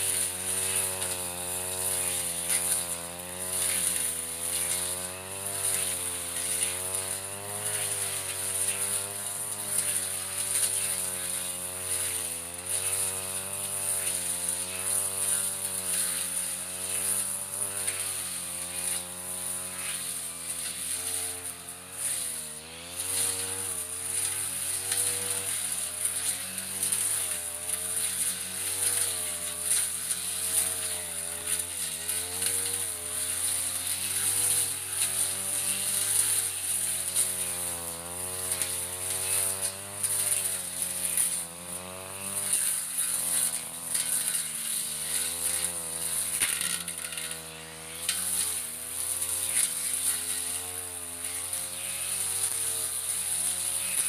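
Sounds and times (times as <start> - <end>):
brush cutter engine running: 0.0 - 54.0.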